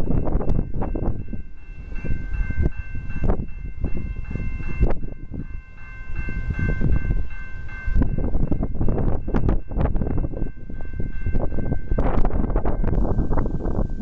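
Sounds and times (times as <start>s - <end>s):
train passing with low rumble: 0.0s - 14.0s
wind buffeting microphone: 0.0s - 14.0s.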